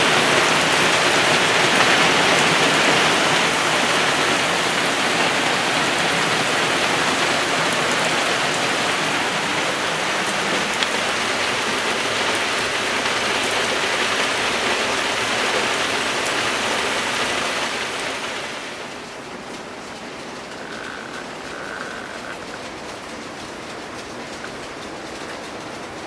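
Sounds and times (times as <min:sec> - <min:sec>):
heavy rain pouring: 0:00.0 - 0:26.0
rain drop hits: 0:00.0 - 0:26.0.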